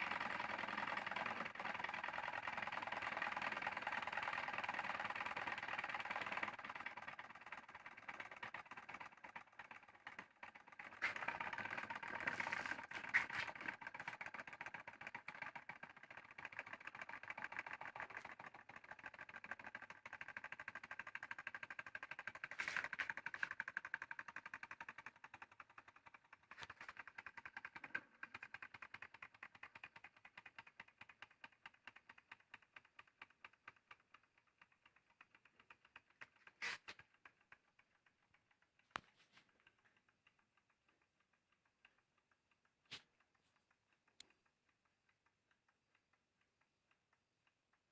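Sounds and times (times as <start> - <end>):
stirling engine ticking rattle: 0.0 - 47.9.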